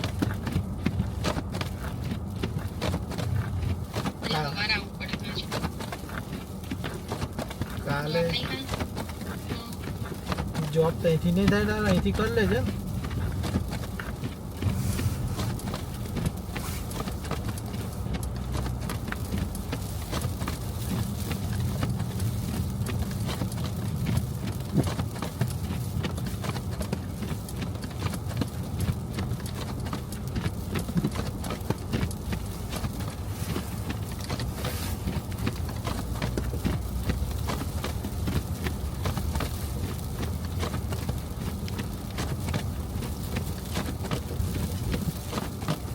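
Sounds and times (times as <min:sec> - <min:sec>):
road rumble in car: 0:00.0 - 0:45.9.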